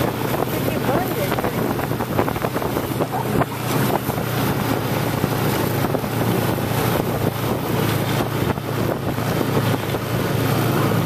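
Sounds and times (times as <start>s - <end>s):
snowmobile engine running: 0.0s - 11.0s
wind buffeting microphone: 0.0s - 11.0s.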